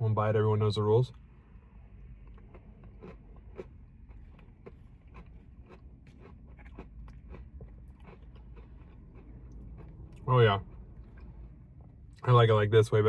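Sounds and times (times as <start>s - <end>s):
chewing with small crunches: 1.1s - 12.5s.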